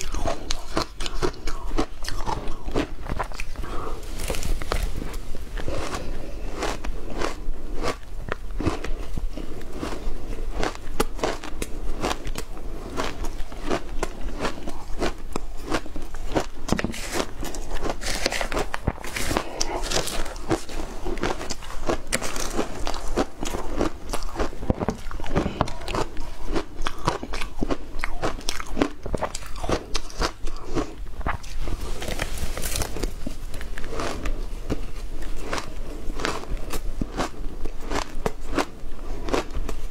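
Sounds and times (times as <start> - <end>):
crunching shaved ice: 0.0 - 39.8.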